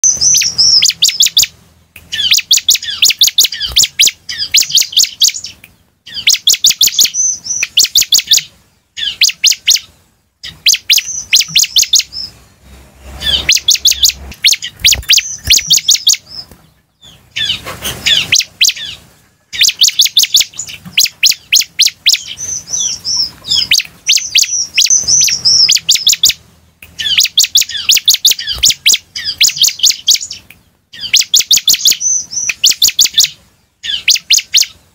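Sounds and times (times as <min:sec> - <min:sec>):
bird singing sharp repeated notes: 0:00.0 - 0:34.9.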